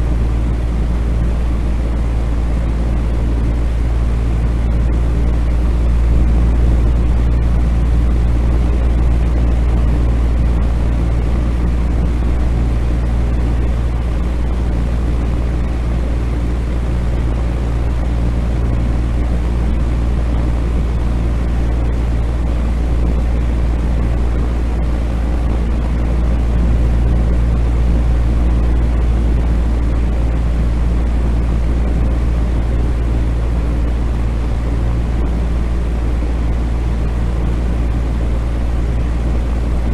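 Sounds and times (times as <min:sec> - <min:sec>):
deep hum: 0:00.0 - 0:39.9
rumbling white noise: 0:00.0 - 0:39.9.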